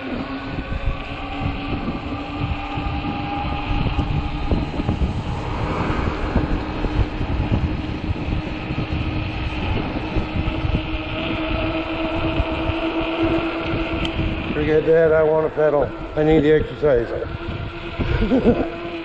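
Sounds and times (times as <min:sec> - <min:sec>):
electric motor whining: 0:00.0 - 0:19.0
wind buffeting microphone: 0:00.0 - 0:19.0.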